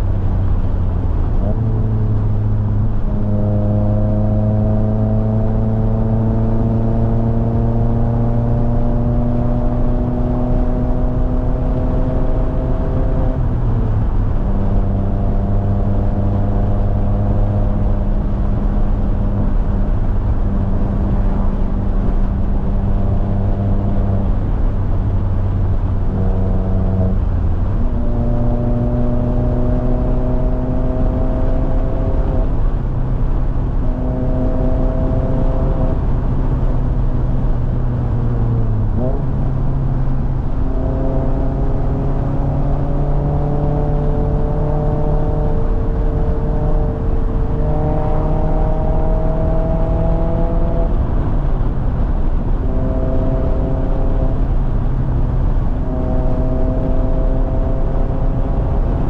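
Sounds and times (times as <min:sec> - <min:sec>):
road and wind rumble: 0:00.0 - 0:59.0.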